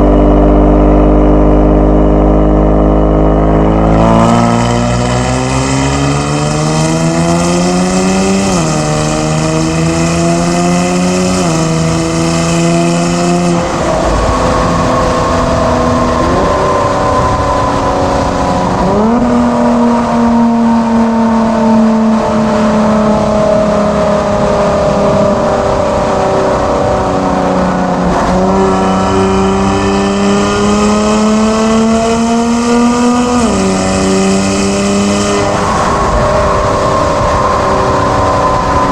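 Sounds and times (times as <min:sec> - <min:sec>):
car engine accelerating through gears: 0:00.0 - 0:38.9.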